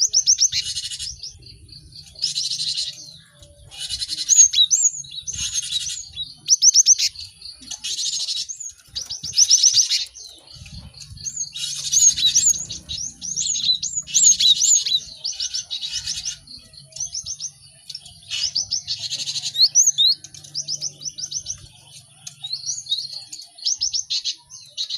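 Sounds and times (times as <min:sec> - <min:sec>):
birds chattering and whistling: 0:00.0 - 0:24.9.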